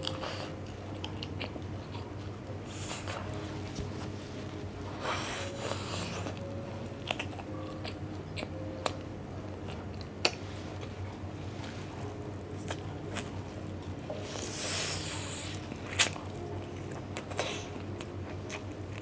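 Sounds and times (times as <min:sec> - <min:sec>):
chewing meat: 0:00.0 - 0:04.2, 0:04.9 - 0:19.0.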